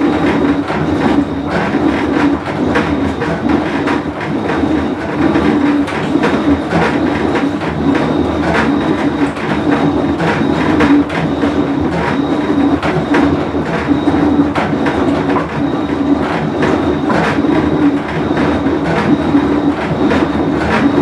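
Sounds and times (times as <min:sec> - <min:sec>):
washing machine rumbling: 0:00.0 - 0:21.0.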